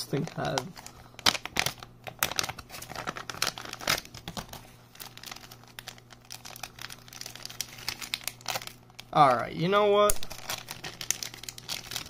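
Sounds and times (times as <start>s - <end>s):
plastic bags crinkling: 0.0s - 9.4s, 10.1s - 12.0s.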